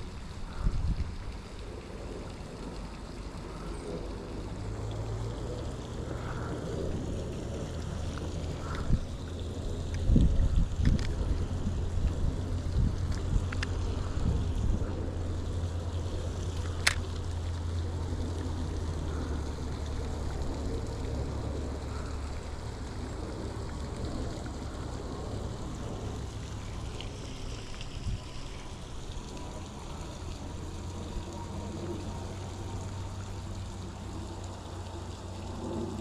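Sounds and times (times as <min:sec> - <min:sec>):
flowing water rushing: 0:00.0 - 0:36.0
wind rumble on microphone: 0:00.0 - 0:36.0.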